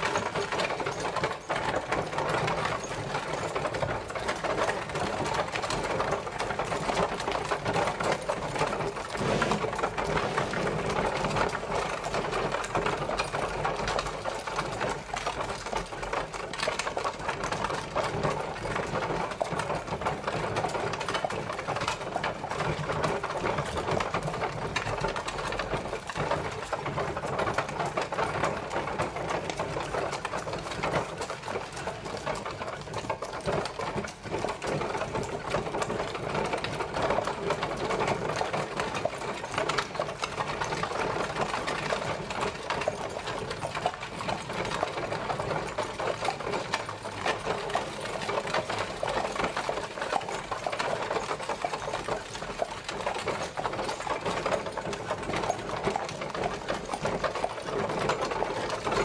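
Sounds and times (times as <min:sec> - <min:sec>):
carriage wheels rattling: 0:00.0 - 0:59.0.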